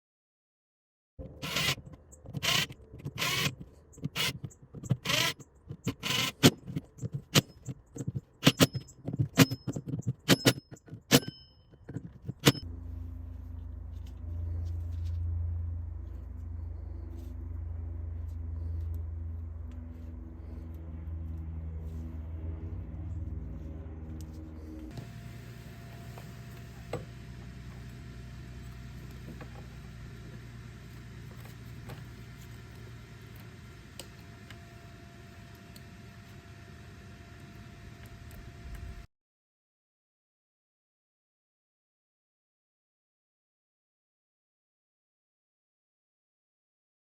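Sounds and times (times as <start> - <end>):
steady low hum: 1.2 - 39.1.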